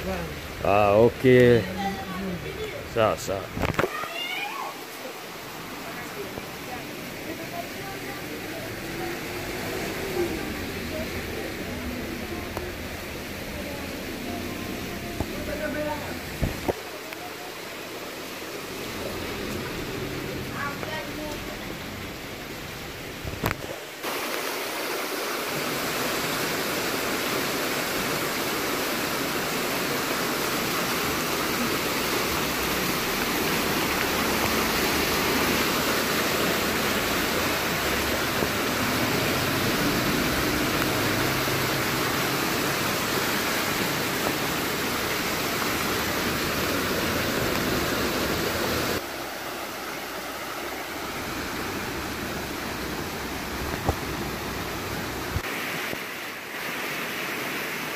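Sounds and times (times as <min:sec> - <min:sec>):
floodwater rushing: 0:00.0 - 0:57.9.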